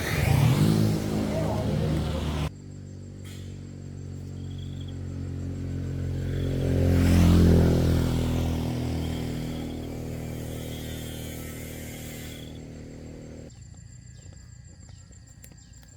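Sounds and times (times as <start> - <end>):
vehicle passing on road: 0.0 - 13.5.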